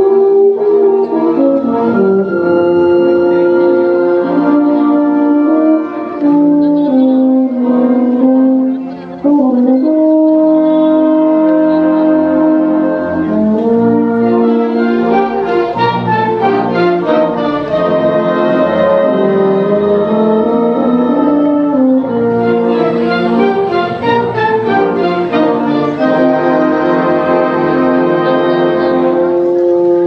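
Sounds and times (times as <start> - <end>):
brass band accompaniment: 0.0 - 30.0
euphonium melody: 0.0 - 30.0.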